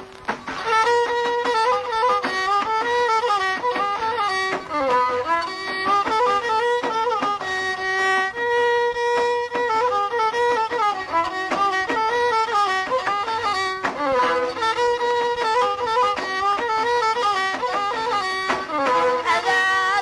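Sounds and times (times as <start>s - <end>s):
violin playing ornamented melody: 0.0s - 20.0s.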